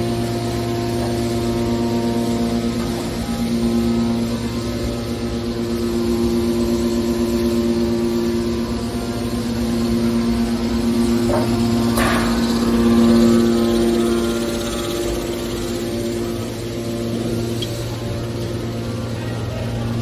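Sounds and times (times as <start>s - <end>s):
baler motor humming: 0.0s - 20.0s.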